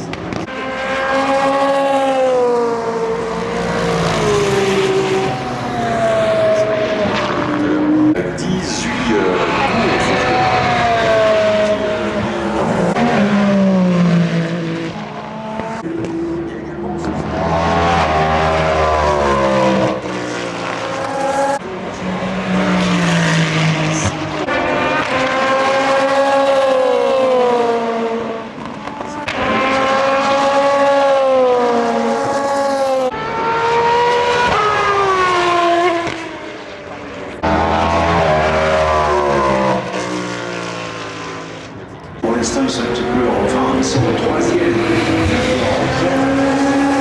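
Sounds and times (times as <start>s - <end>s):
racing car engines at full revs: 0.0s - 47.0s.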